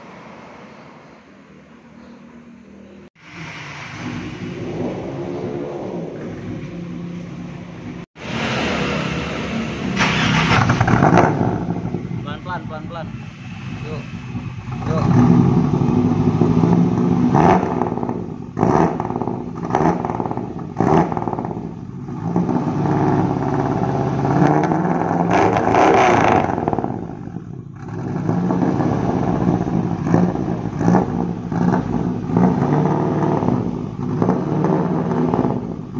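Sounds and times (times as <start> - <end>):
car engine revving: 3.2 - 35.9.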